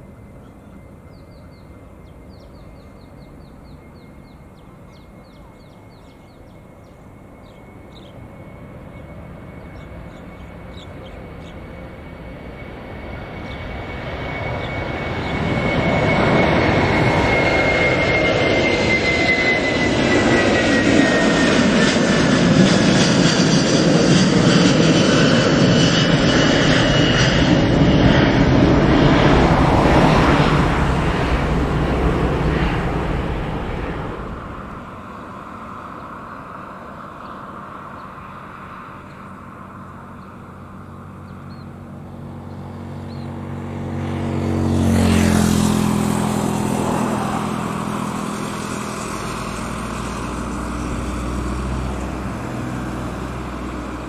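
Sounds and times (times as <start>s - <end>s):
high jet engine whine: 0.0s - 54.0s
jet airliner roar at takeoff: 0.0s - 54.0s.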